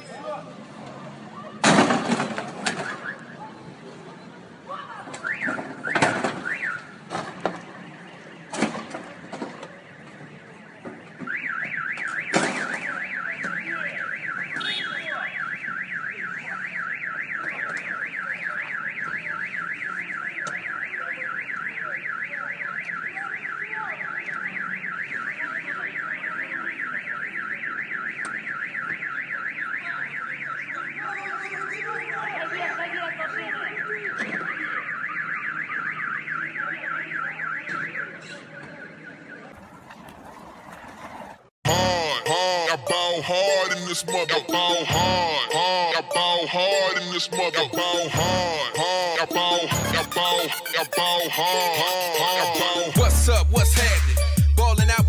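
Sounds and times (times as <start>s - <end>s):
car alarm warbling: 5.2s - 7.0s, 11.2s - 31.9s, 33.3s - 55.0s.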